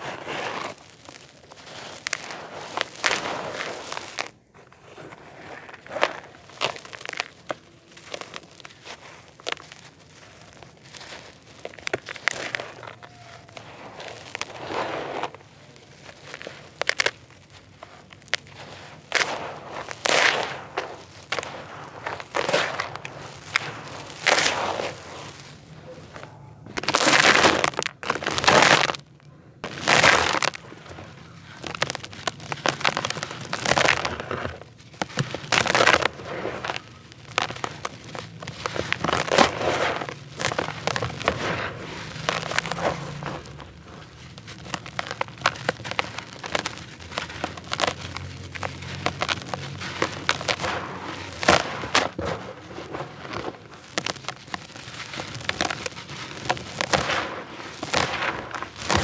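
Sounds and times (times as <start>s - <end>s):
brick pieces crushed by hand: 0.0s - 59.0s.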